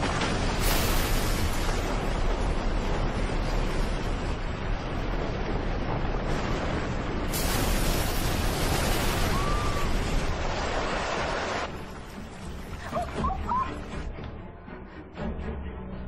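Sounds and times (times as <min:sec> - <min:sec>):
rushing rumbling water: 0:00.0 - 0:14.2.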